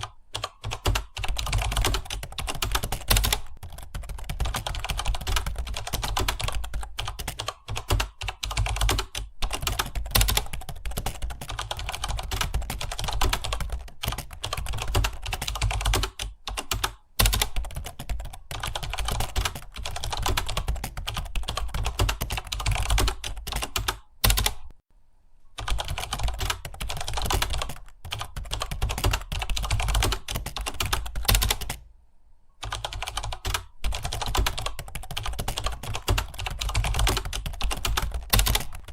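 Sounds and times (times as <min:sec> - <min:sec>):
typing on computer keyboard: 0:00.0 - 0:24.7, 0:25.6 - 0:31.8, 0:32.6 - 0:38.9.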